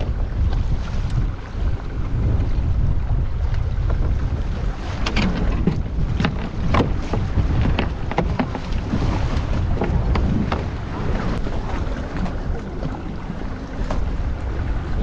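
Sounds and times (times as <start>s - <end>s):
low rumble: 0.0s - 15.0s
sea water splashing: 0.0s - 15.0s
wind buffeting microphone: 0.0s - 15.0s.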